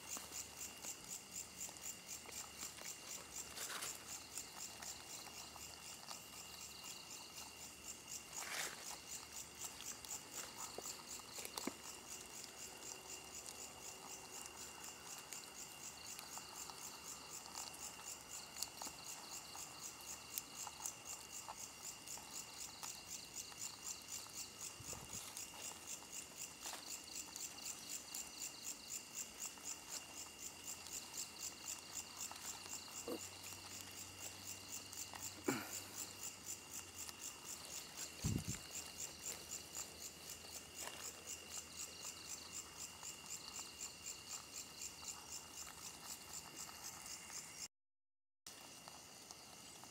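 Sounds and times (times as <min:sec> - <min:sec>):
crickets chirping: 0:00.0 - 0:47.7, 0:48.5 - 0:49.9.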